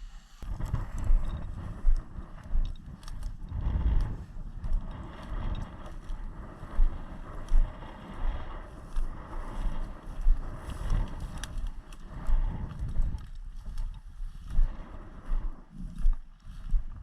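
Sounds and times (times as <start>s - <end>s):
rustling vegetation: 0.0s - 17.0s
wind buffeting microphone: 0.0s - 17.0s.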